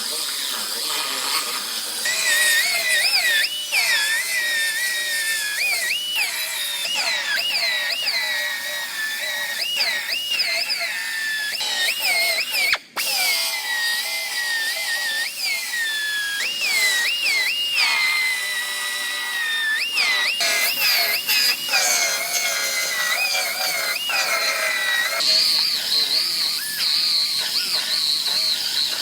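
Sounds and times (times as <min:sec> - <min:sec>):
power tool whining cutting metal: 0:00.0 - 0:29.0.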